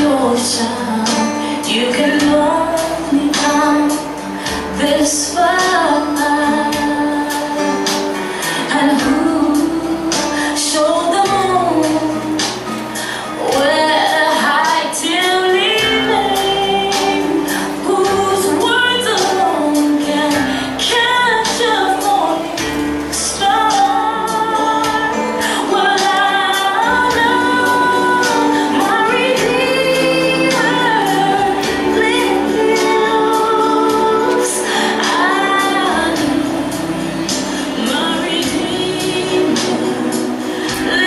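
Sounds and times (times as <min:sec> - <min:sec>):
backing track with steady beat: 0:00.0 - 0:41.0
woman singing: 0:00.0 - 0:41.0.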